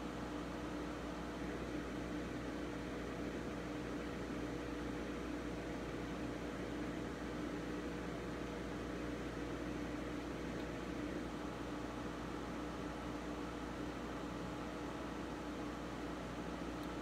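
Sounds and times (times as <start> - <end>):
fan hiss: 0.0 - 17.0.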